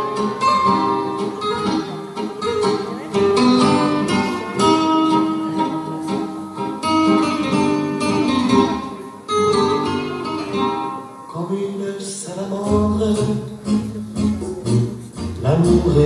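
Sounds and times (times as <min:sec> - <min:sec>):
plucked acoustic guitar song: 0:00.0 - 0:16.0.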